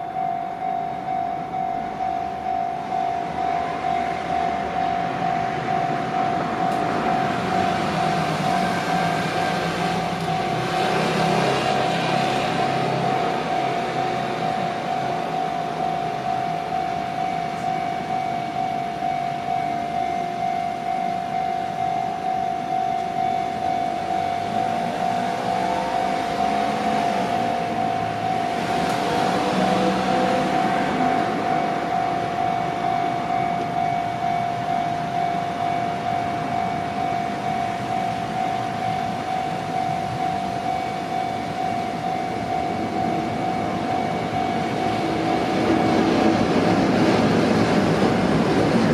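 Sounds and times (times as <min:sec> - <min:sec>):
level crossing alarm bell: 0:00.0 - 0:48.9.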